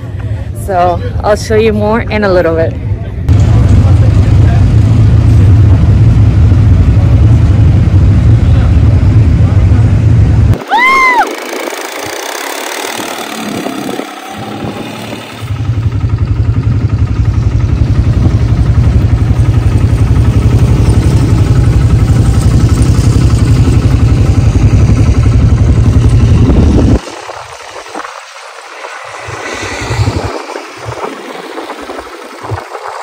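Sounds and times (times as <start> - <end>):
quad bike engine running: 3.3 - 33.0.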